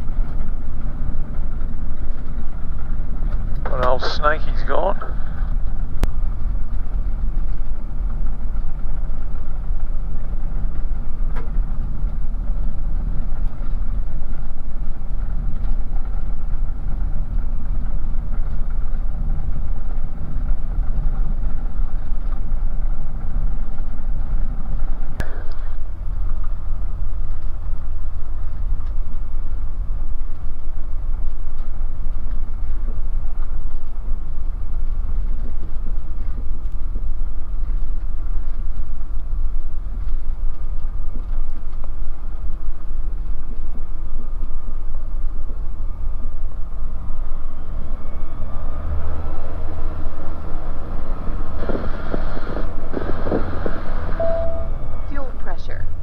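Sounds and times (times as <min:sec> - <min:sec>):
light aircraft engine droning: 0:00.0 - 0:56.0.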